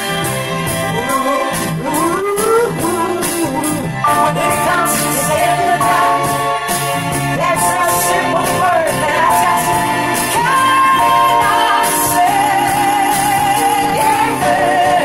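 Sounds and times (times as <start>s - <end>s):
backing track with steady beat: 0.0s - 15.0s
woman singing: 0.9s - 6.6s, 7.3s - 15.0s.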